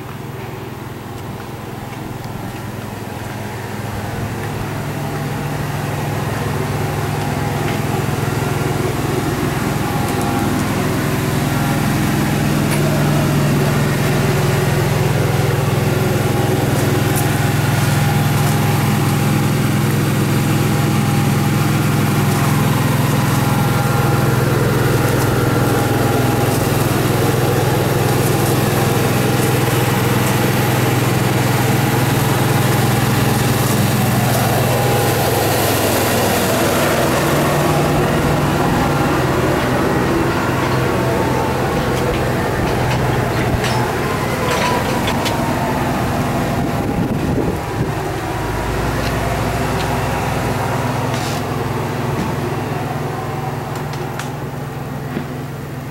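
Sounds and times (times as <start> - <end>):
engine humming steadily: 0.0 - 55.9.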